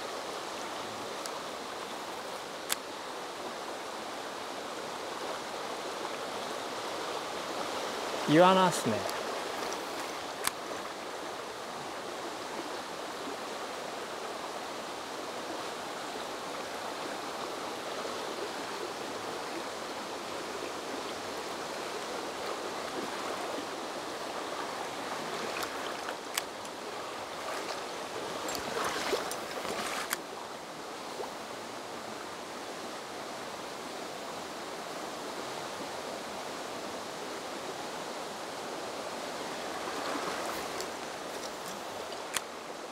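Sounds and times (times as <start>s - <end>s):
stream flowing over stones: 0.0s - 42.9s.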